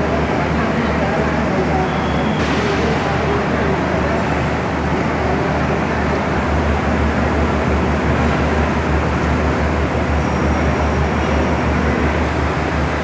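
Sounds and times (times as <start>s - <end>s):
din of people and machinery: 0.0s - 13.0s.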